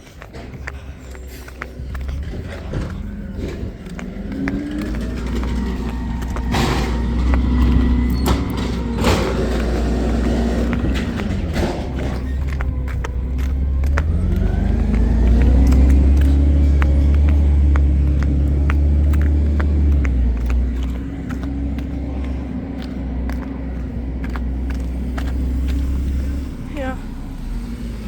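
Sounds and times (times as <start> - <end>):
garbage truck engine revving: 0.0 - 28.0.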